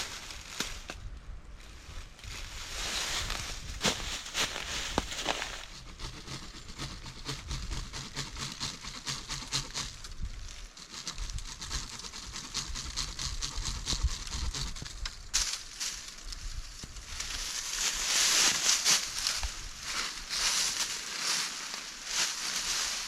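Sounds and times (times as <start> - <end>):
dry leaves and twigs crackling: 0.0 - 23.0.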